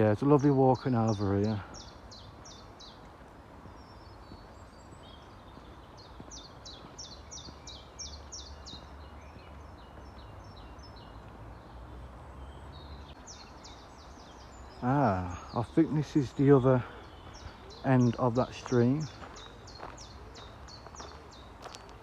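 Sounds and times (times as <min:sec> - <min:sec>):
songbird singing high falling notes: 0:03.6 - 0:21.9.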